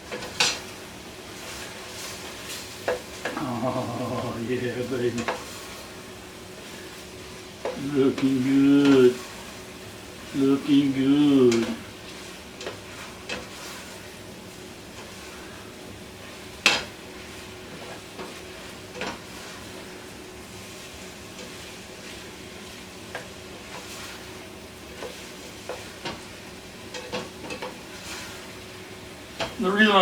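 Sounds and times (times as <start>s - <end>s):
onions and mushrooms sizzling: 0.0s - 30.0s.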